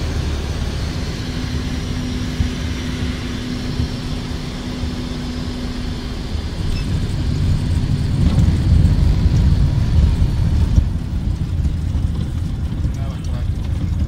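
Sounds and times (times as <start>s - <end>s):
low rumble: 0.0s - 14.0s
propeller plane engine running: 0.0s - 14.0s.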